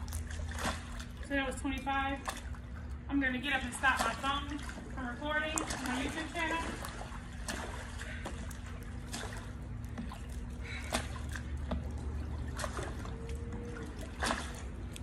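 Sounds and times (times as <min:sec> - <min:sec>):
pool water splashing and dripping: 0:00.0 - 0:15.0
steady low hum: 0:00.0 - 0:15.0.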